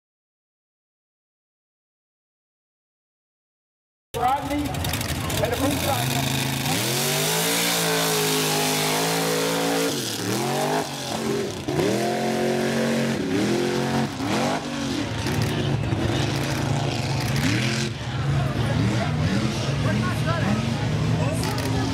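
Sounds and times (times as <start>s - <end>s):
racing buggy engine revving: 4.2s - 21.9s.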